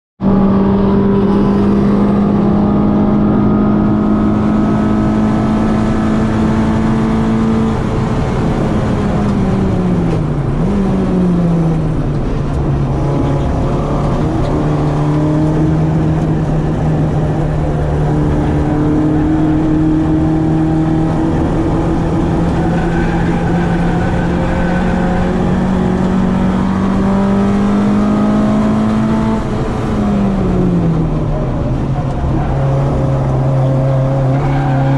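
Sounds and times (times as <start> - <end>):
car engine revving hard: 0.2 - 34.9.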